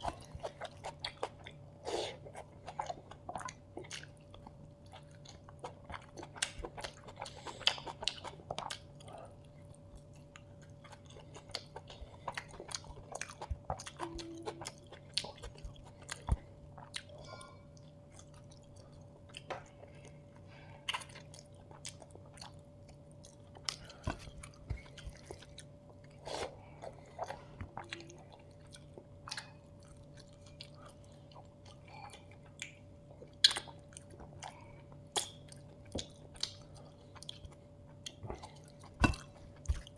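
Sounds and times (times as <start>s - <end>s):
close chewing and biting: 0.0s - 20.2s, 20.8s - 39.9s.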